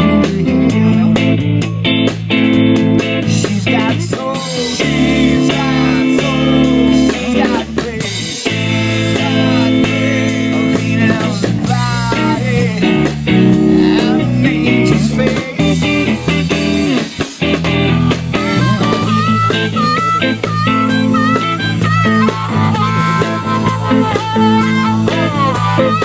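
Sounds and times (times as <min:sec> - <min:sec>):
bass guitar: 0:00.0 - 0:26.0
drum kit: 0:00.0 - 0:26.0
electric guitar: 0:00.0 - 0:26.0
harmonica riff: 0:03.2 - 0:26.0.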